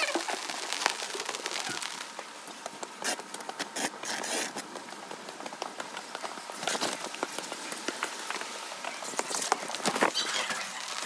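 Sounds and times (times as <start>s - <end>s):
rain drips and taps: 0.0s - 11.0s
rain hiss: 0.0s - 11.0s.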